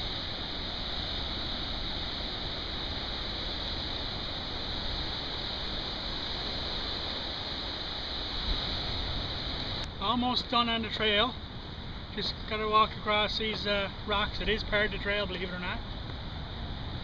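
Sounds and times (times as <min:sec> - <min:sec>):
ocean surf on rocky shore: 0:00.0 - 0:17.0.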